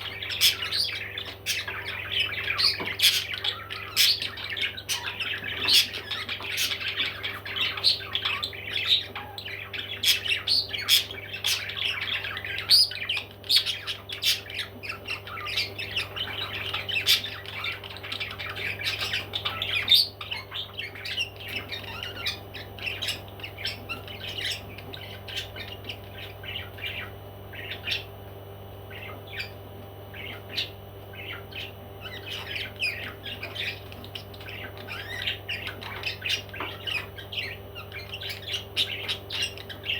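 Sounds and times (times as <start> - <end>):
parrots squawking: 0.0 - 28.2, 28.9 - 39.9
steady low hum: 0.0 - 39.9.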